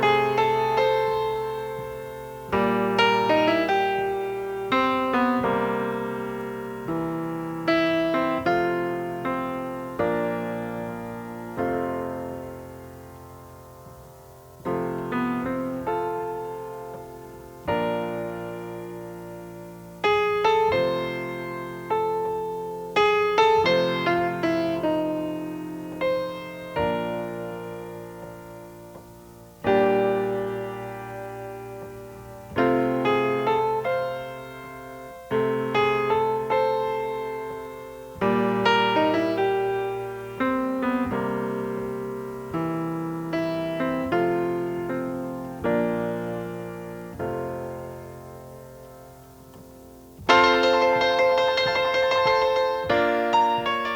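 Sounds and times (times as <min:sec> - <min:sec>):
slow solo piano: 0:00.0 - 0:53.9.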